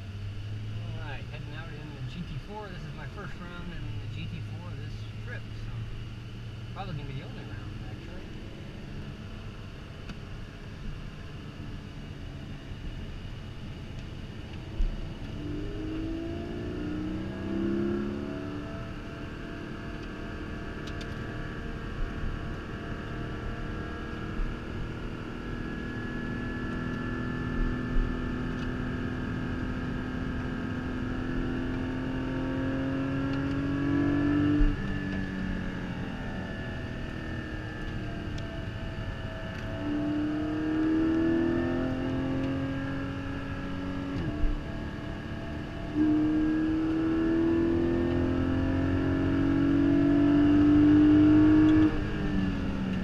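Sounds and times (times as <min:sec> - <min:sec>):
car engine revving in cabin: 0:00.0 - 0:53.0.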